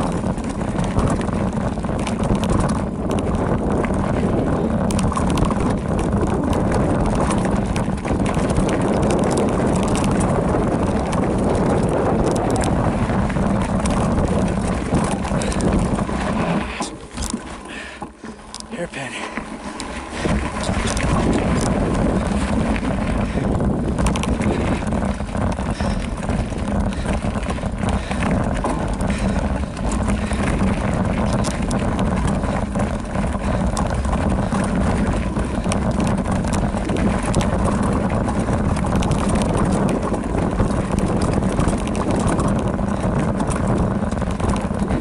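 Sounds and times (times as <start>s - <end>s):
bike rattles and clicks: 0.0s - 45.0s
bike tyres rolling on dirt: 0.0s - 45.0s
wind buffeting microphone: 0.0s - 45.0s.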